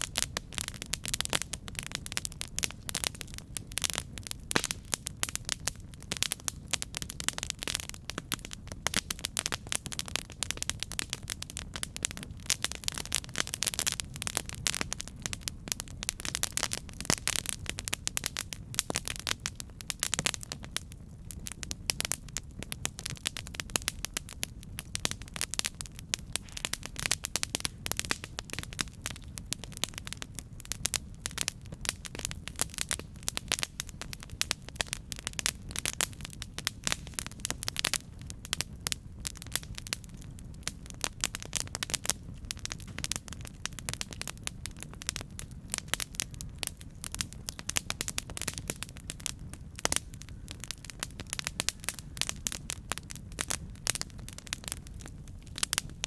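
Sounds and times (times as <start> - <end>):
campfire crackling and popping: 0.0 - 56.0
low fire rumble: 0.0 - 56.0.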